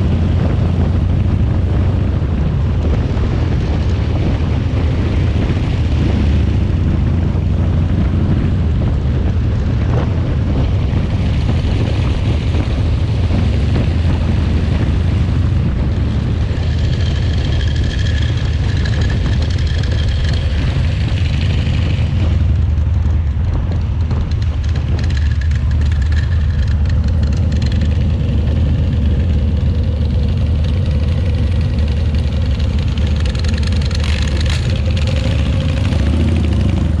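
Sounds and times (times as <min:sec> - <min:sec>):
motorcycle engine rumble: 0:00.0 - 0:37.0
wind and road noise: 0:00.0 - 0:37.0.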